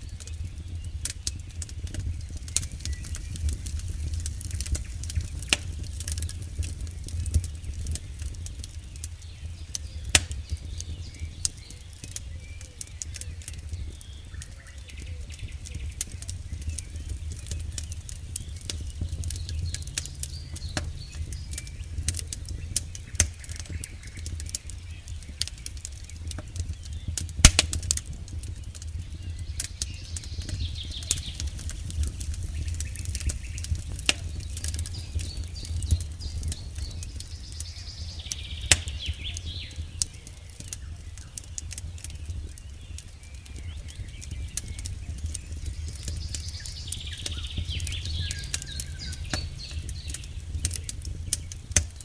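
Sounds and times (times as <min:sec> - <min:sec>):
campfire crackling and popping: 0:00.0 - 0:52.0
faint chirping calls: 0:00.0 - 0:52.0.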